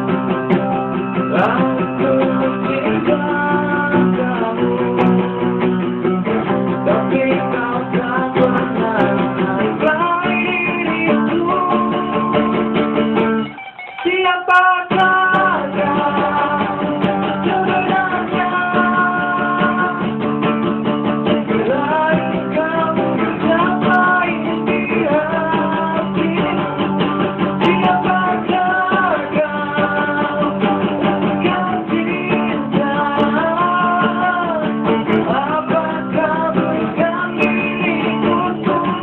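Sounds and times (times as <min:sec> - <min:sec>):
man singing: 0:00.0 - 0:13.4, 0:14.0 - 0:39.0
picked electric guitar: 0:00.0 - 0:39.0
strummed acoustic guitar: 0:00.0 - 0:39.0.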